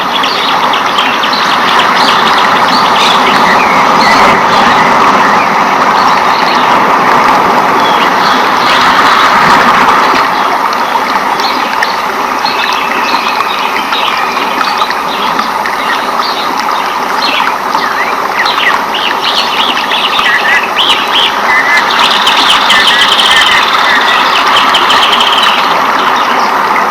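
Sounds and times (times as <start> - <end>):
birds chirping: 0.0 - 6.8, 10.4 - 26.5.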